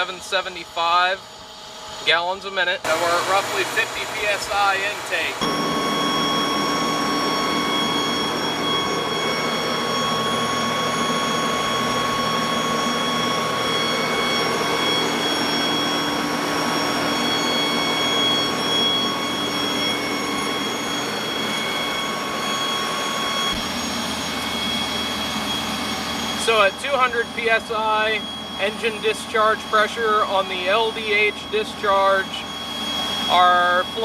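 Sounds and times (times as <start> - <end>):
fire truck engine and pump droning: 0.0 - 34.0.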